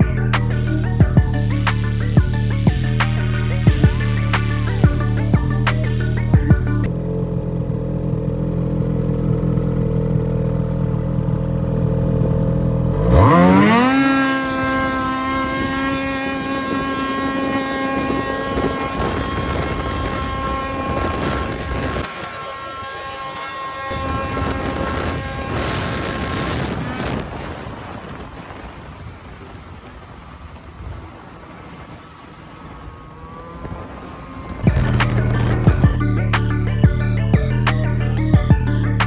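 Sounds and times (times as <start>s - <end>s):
snowmobile engine: 0.0s - 39.0s.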